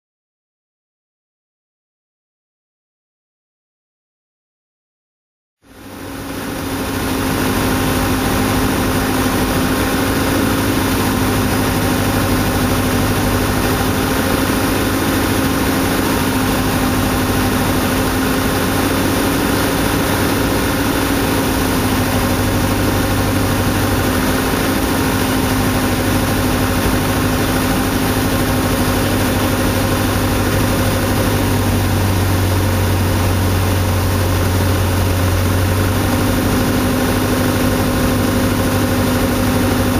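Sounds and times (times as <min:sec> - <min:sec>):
airplane engine and propeller droning: 0:05.6 - 0:39.9.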